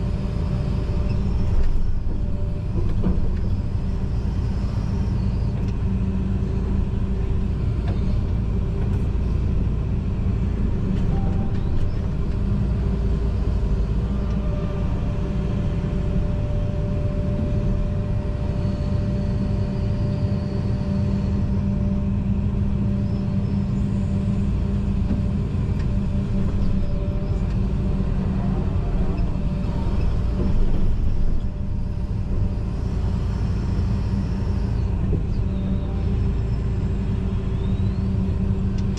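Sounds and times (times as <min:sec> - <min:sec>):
excavator engine and hydraulics rumble: 0:00.0 - 0:38.9.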